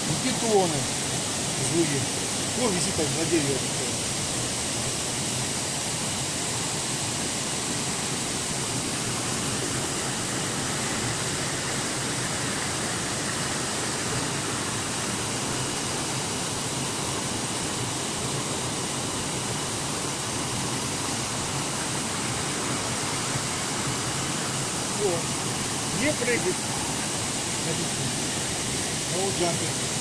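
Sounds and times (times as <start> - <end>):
stream cascading between boulders: 0.0 - 30.0.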